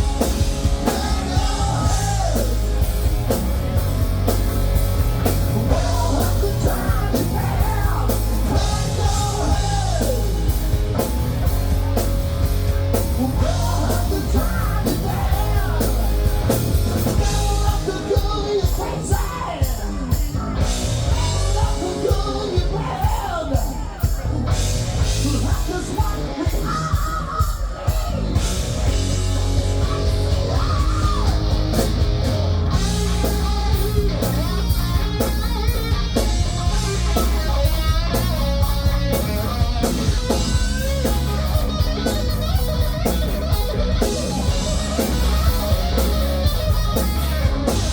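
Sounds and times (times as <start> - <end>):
distorted electric guitar: 0.0 - 47.9
drum kit: 0.0 - 47.9
yelled vocals: 0.0 - 47.9.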